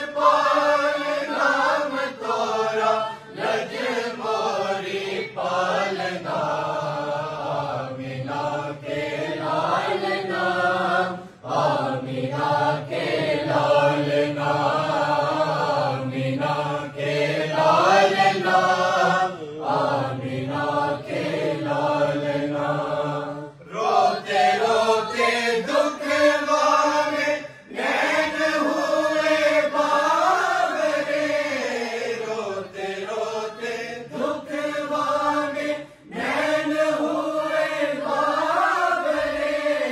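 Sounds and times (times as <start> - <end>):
group chanting in unison: 0.0 - 39.9.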